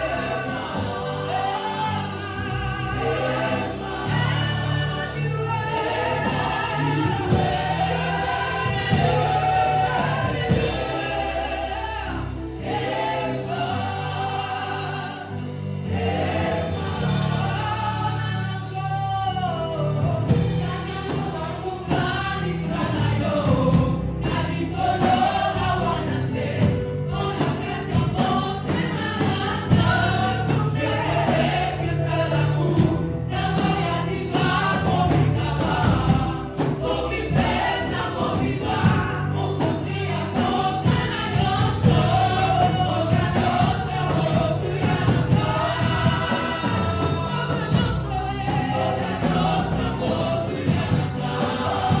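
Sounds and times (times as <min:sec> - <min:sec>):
bass and keyboard accompaniment: 0:00.0 - 0:52.0
choir singing gospel song: 0:00.0 - 0:52.0.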